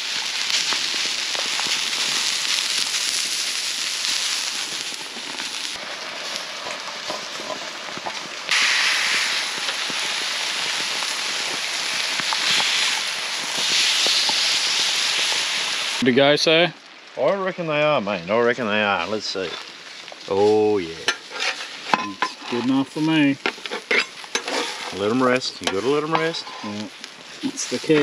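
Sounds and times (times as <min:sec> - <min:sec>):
meat sizzling on barbecue plate: 0:00.0 - 0:28.0.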